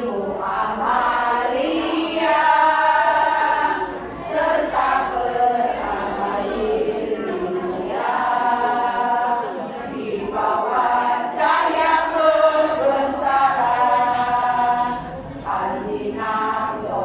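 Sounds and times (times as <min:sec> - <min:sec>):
women's choir singing: 0:00.0 - 0:17.0.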